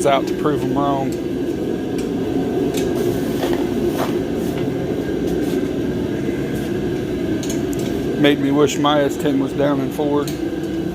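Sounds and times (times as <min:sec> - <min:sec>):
machine humming: 0:00.0 - 0:10.9.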